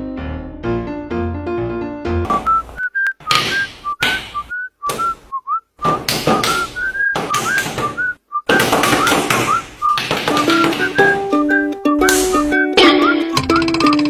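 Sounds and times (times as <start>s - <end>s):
person whistling a tune: 2.3s - 14.0s.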